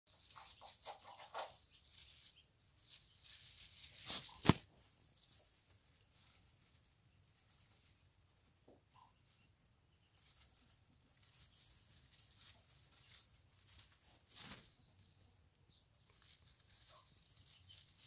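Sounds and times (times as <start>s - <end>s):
rabbits rustling through grass: 0.1s - 18.0s.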